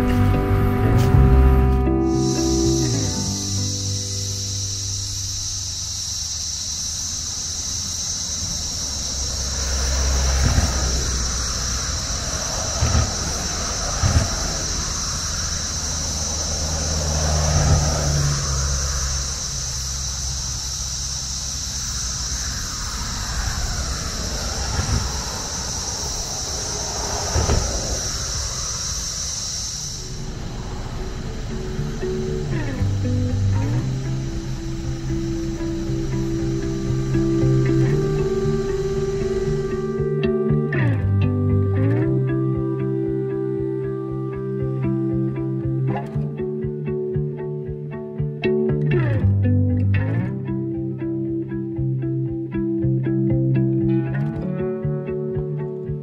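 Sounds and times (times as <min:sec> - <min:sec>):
high-pitched drone: 0:00.0 - 0:56.0
road traffic rumbling: 0:00.0 - 0:56.0.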